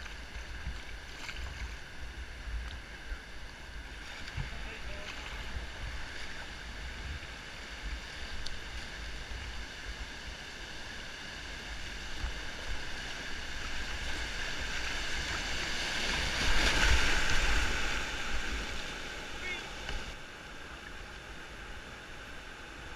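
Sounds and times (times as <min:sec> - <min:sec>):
river water rushing: 0:00.0 - 0:22.9.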